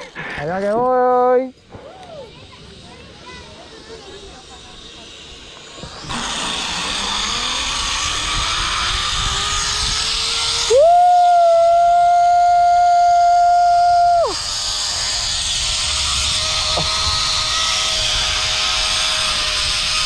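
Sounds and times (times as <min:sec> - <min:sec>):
zip-line trolley whirring on cable: 0:00.0 - 0:20.0.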